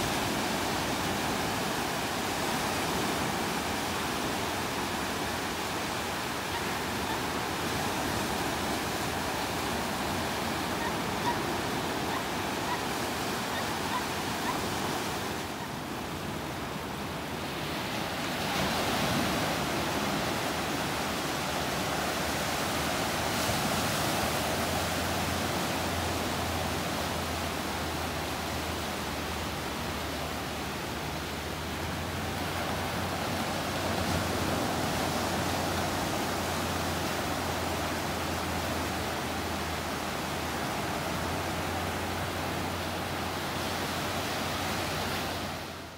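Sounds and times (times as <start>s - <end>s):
waves breaking on a beach: 0.0s - 45.9s.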